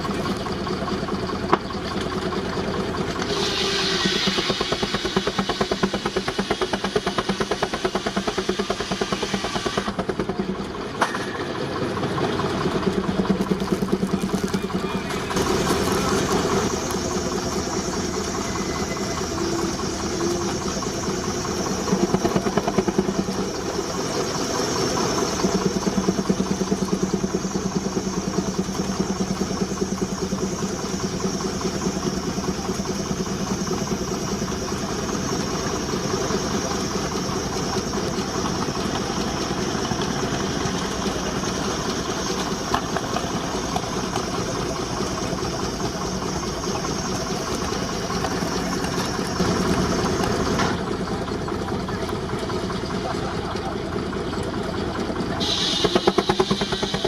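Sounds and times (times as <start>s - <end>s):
machinery hum: 0.0s - 57.0s
steam traction engine exhaust beats: 0.0s - 57.0s.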